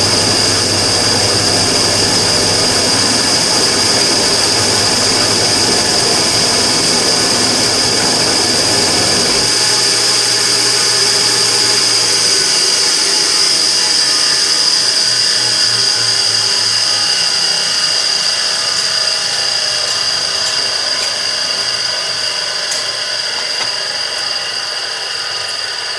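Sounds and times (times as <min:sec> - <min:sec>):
low pulsing: 0:00.0 - 0:25.3
burner high-pitched whine: 0:00.0 - 0:25.9
mechanical hum: 0:00.0 - 0:25.9.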